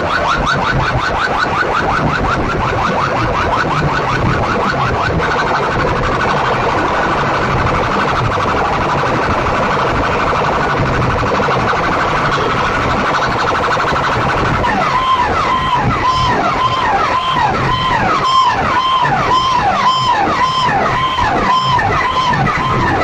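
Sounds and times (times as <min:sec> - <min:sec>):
siren-like warble over bass: 0:00.0 - 0:23.0.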